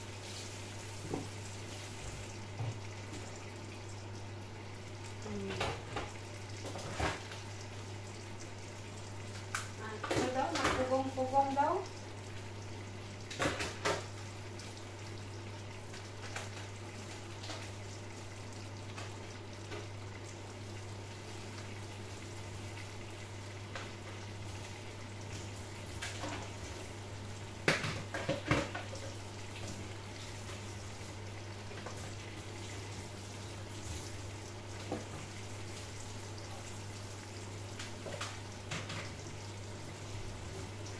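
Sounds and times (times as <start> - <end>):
pot boiling with bubbling hiss: 0.0 - 40.9.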